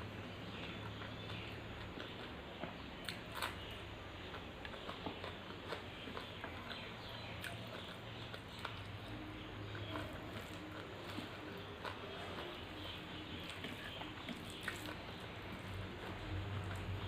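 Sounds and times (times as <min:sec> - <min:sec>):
low steady hum: 0:00.0 - 0:17.0
person chewing: 0:00.5 - 0:17.0.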